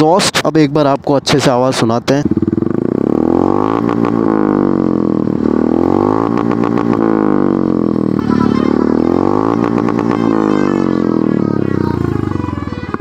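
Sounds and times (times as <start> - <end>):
motorcycle engine revving: 2.0 - 13.0.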